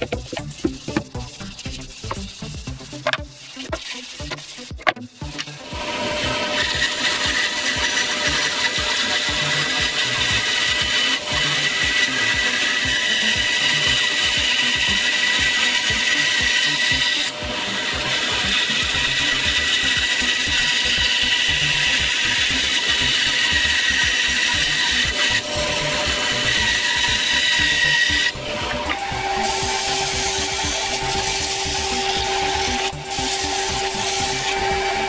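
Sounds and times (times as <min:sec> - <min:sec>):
bandsaw cutting wood: 0:00.0 - 0:35.0.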